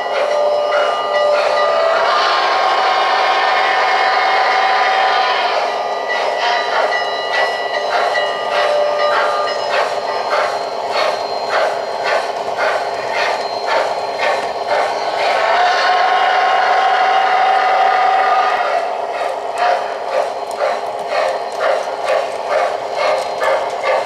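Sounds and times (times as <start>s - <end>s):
model train clicking on track: 0.0s - 24.0s.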